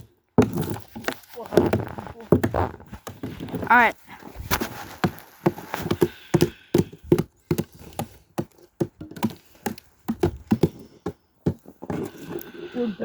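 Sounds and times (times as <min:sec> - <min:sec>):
ice being chopped: 0:00.0 - 0:03.7, 0:04.4 - 0:12.3.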